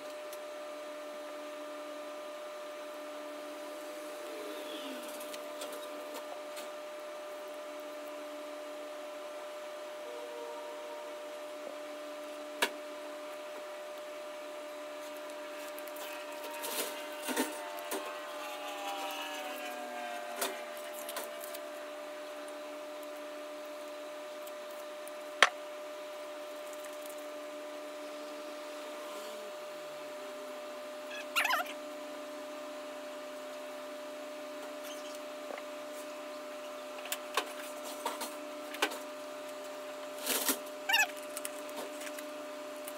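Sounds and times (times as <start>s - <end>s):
steady hum: 0.0s - 42.9s.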